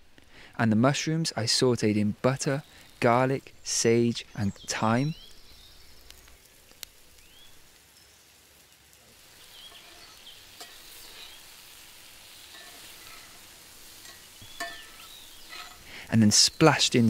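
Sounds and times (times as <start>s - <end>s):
mushrooms frying: 0.2s - 17.0s
butter sizzling in skillet: 2.1s - 17.0s.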